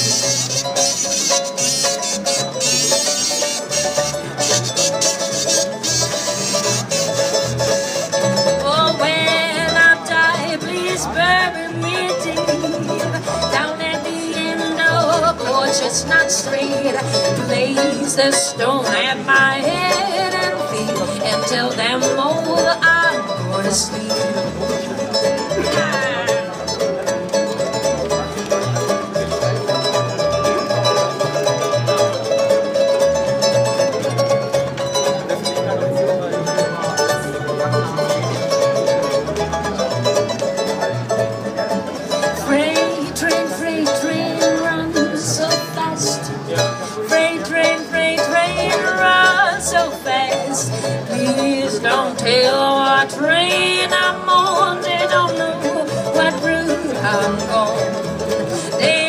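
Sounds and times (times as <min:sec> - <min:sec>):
fingerpicked guitar and ukuleles: 0:00.0 - 0:59.0
sliding lead melody: 0:00.0 - 0:59.0.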